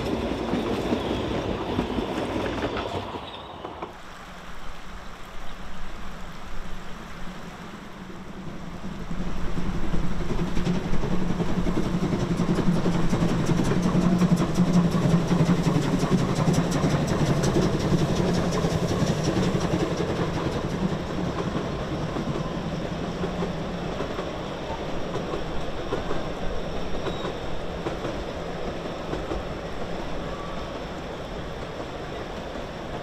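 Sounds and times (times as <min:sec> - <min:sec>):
steam train rumbling: 0:00.0 - 0:33.0.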